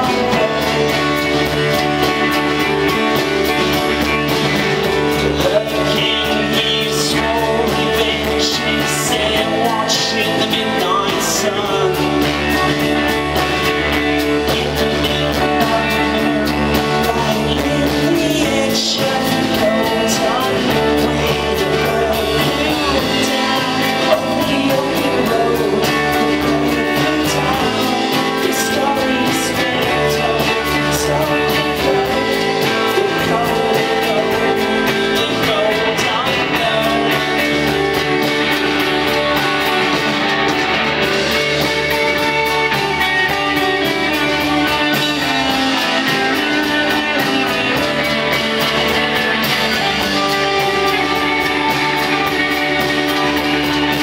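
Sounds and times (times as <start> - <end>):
bass guitar: 0.0 - 54.0
drums: 0.0 - 54.0
electric guitar: 0.0 - 54.0
person singing: 0.0 - 54.0.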